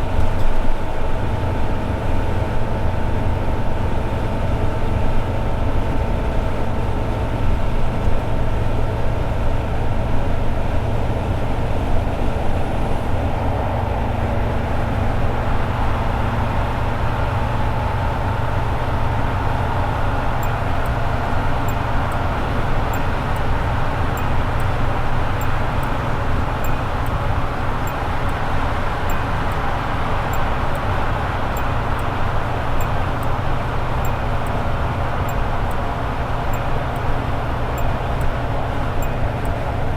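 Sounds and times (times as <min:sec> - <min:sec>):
car engine cruising: 0:00.0 - 0:39.9
low exhaust drone: 0:00.0 - 0:39.9
road noise: 0:00.0 - 0:39.9.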